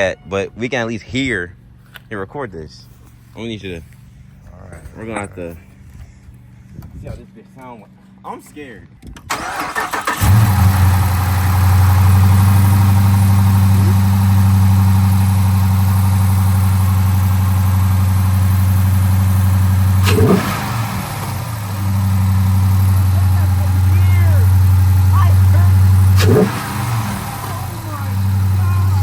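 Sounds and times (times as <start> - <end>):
car engine cranking and idling: 0.7 - 7.0, 9.0 - 29.0.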